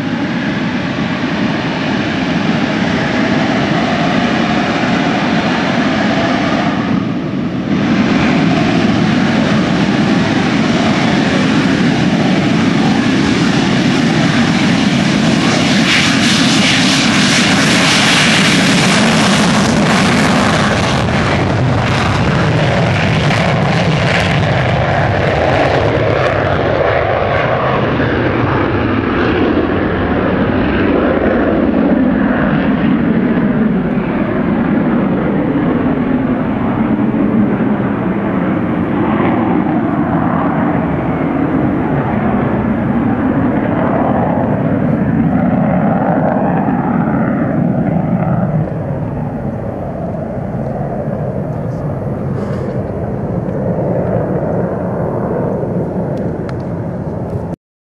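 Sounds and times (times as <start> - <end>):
jet engine roaring: 0.0 - 57.6.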